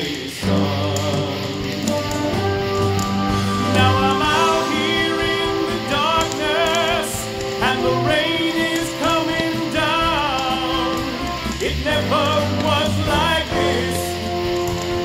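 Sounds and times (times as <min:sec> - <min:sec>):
song with singing voice: 0:00.0 - 0:15.0.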